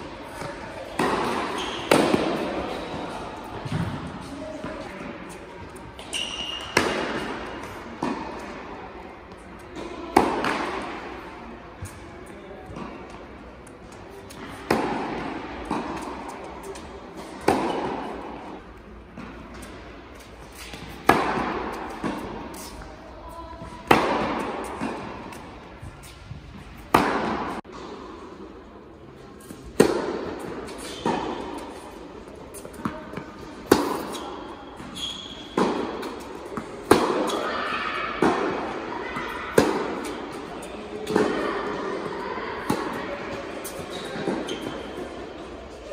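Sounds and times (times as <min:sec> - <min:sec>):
tennis racket hitting ball: 0:00.3 - 0:08.6, 0:09.3 - 0:11.2, 0:14.3 - 0:22.9, 0:23.6 - 0:27.7, 0:29.4 - 0:31.9, 0:32.5 - 0:45.1.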